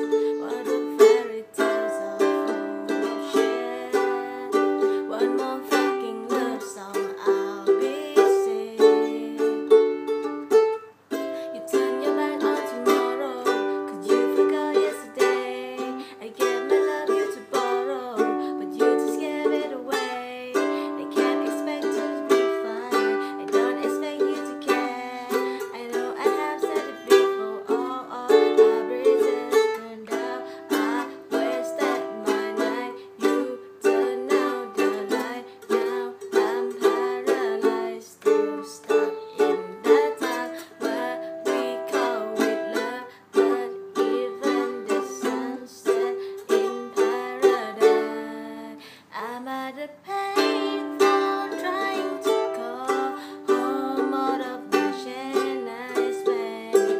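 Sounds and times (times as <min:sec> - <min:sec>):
ukulele strumming chords: 0:00.0 - 0:49.0, 0:49.9 - 0:56.9.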